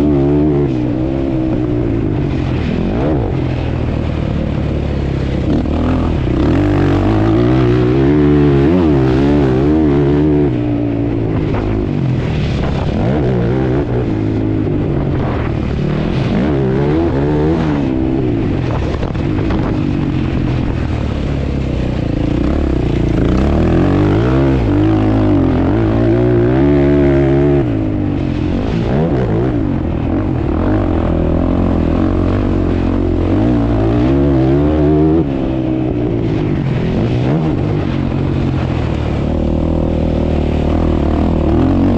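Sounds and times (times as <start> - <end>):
atv engine revving: 0.0 - 41.9.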